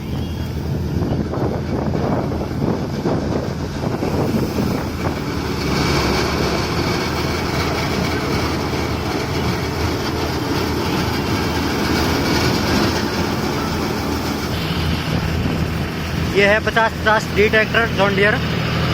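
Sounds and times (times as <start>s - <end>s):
diesel tractor engine running: 0.0s - 18.9s.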